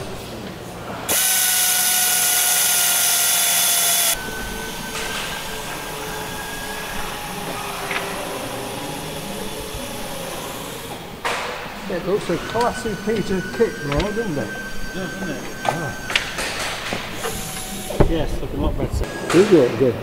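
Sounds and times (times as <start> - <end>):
workshop hum: 0.0 - 20.0
pneumatic air drill whine: 1.1 - 19.5.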